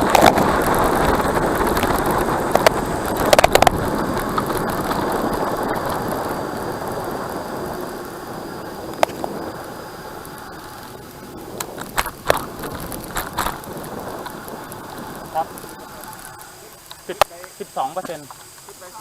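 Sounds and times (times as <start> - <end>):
bicycle tyre noise: 0.0 - 19.0
rushing wind: 0.0 - 19.0.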